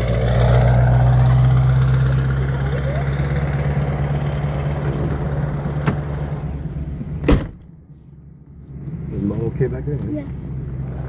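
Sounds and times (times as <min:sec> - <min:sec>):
car engine drone inside cabin: 0:00.0 - 0:11.0.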